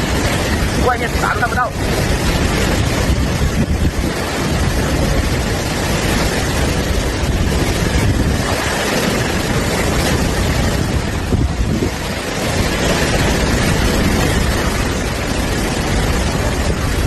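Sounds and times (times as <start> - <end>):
strong wind rushing: 0.0 - 17.0
wind buffeting microphone: 0.0 - 17.0.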